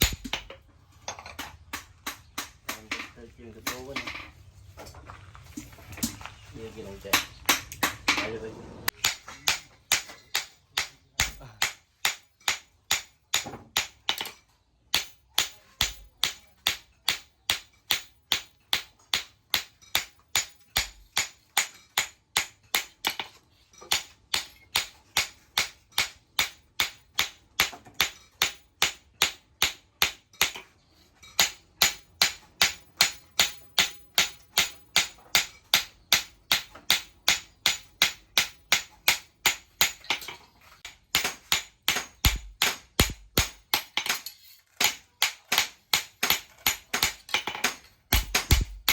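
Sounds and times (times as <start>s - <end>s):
hammer striking steel: 0.0s - 0.6s, 8.9s - 23.3s, 23.9s - 30.7s, 31.3s - 48.9s.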